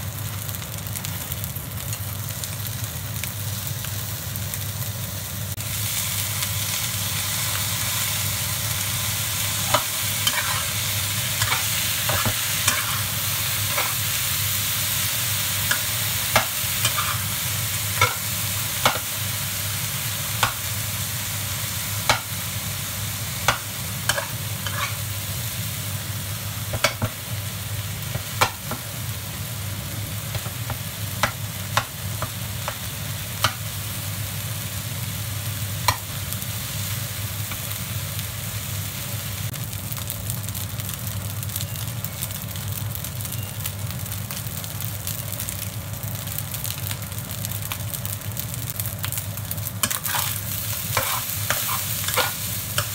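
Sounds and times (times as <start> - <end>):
rice sizzling in a wok: 0.0 - 52.9.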